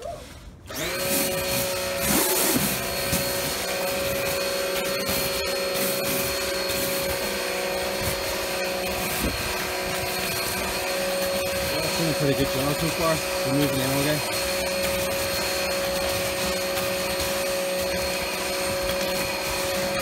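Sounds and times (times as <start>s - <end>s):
pressure washer whining: 0.7s - 20.0s
water jet spraying on paving: 1.0s - 20.0s.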